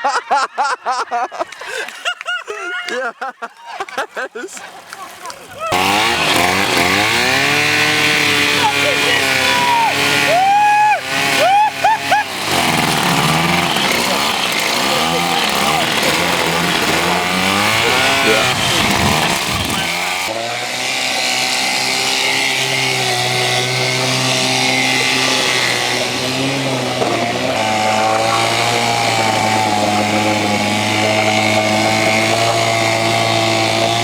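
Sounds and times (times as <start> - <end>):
outboard motor running: 5.1 - 34.0.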